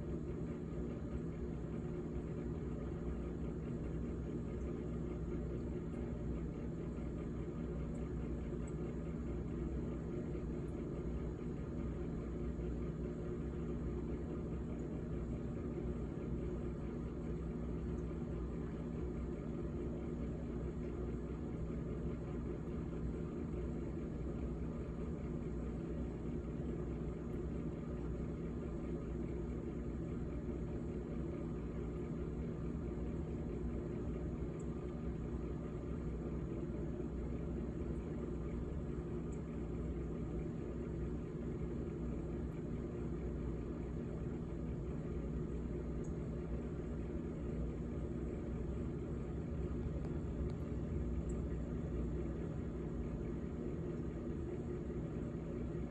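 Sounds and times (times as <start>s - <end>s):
refrigerator humming: 0.0s - 55.9s.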